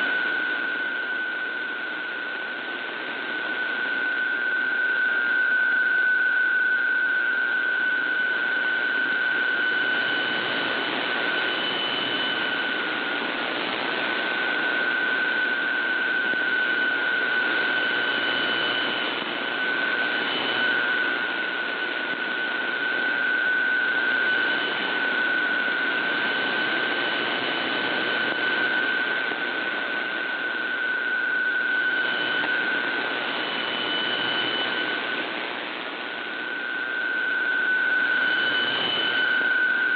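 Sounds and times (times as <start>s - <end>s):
faint higher tone: 0.0s - 13.3s, 14.0s - 26.6s, 28.3s - 35.2s, 36.1s - 39.9s
steady mid-pitched data tone: 0.0s - 39.9s.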